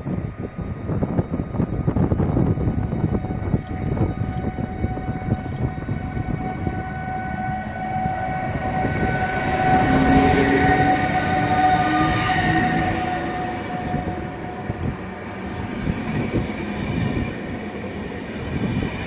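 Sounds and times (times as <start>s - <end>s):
rising whine: 0.0s - 17.9s
freight train rumbling: 0.0s - 19.0s.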